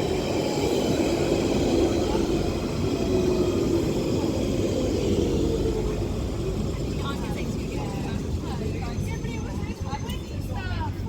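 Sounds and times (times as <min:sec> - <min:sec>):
electric train running with a whine: 0:00.0 - 0:11.0.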